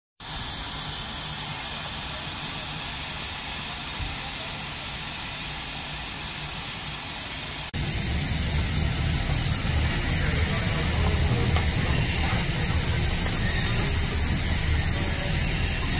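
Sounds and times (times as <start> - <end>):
diesel train engine rumble: 0.2 - 15.9
steam hissing from locomotive: 0.2 - 15.9.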